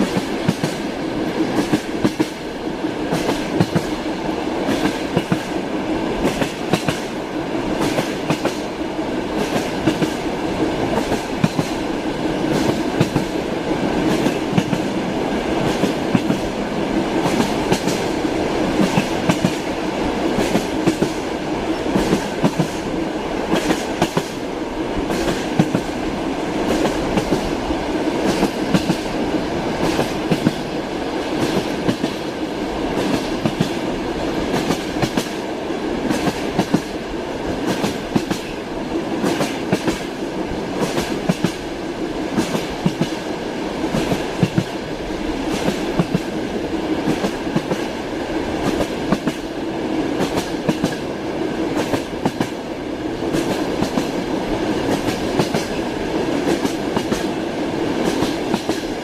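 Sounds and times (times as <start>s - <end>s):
train wheels clickety-clack: 0.0s - 59.0s.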